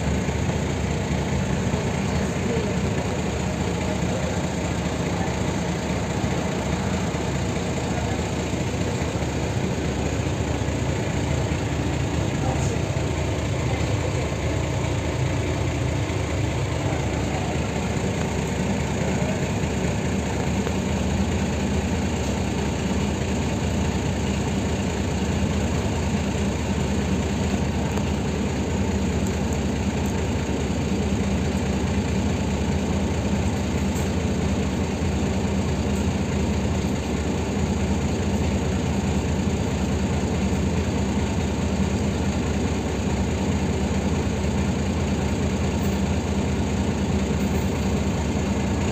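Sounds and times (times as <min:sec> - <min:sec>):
bus diesel engine idling: 0:00.0 - 0:48.9.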